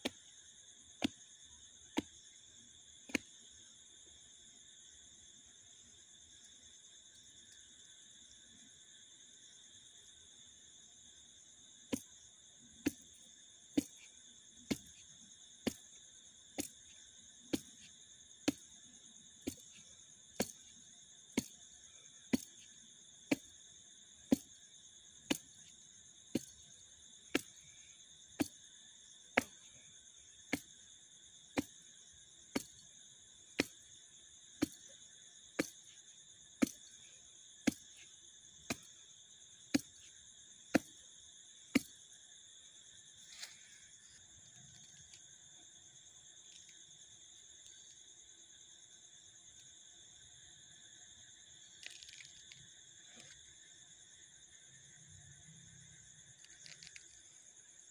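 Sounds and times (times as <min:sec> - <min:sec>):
crickets chirring: 0:00.0 - 0:57.9.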